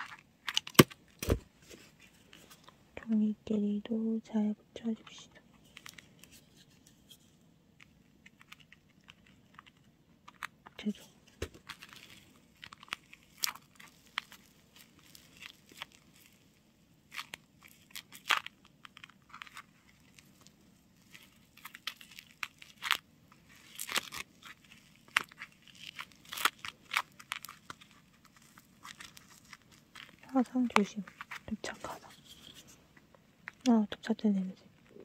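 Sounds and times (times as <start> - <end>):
paper crinkling and crackling: 0.0 - 3.1, 4.8 - 35.0.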